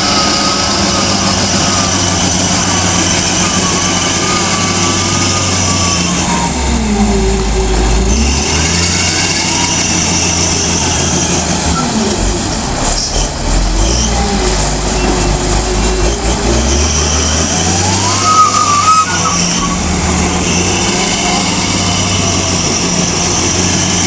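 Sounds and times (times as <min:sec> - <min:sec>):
wheel loader diesel engine under load: 0:00.0 - 0:24.0.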